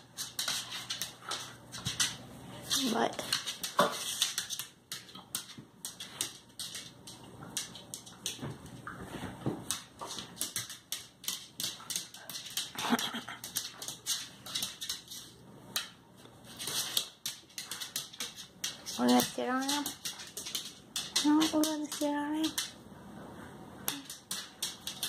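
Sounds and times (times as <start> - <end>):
claws scuffling on vinyl floor: 0.0 - 12.8, 13.4 - 22.8.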